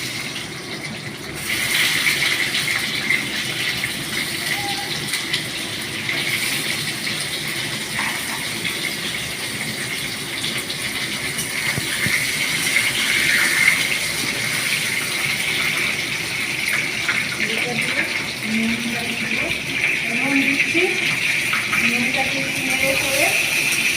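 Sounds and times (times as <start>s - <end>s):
potatoes sizzling in hot oil: 0.0s - 23.9s.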